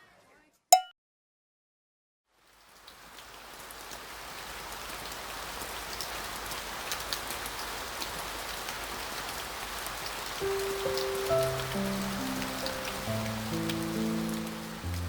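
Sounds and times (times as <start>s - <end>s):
steady rain falling: 2.3s - 15.0s.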